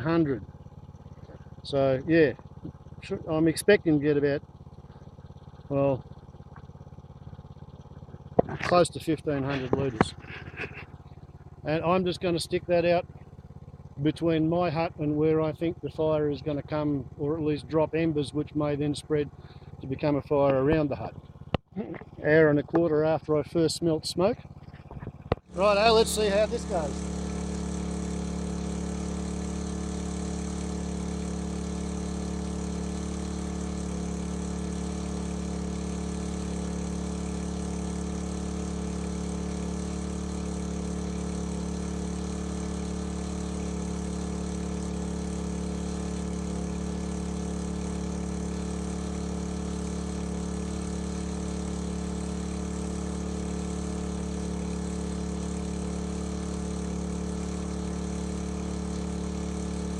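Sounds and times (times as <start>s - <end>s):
engine-driven water pump running: 0.0s - 59.9s.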